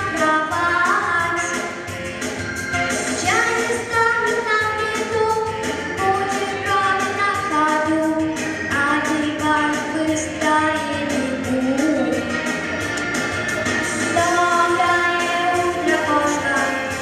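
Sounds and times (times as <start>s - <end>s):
backing track with steady beat: 0.0s - 17.0s.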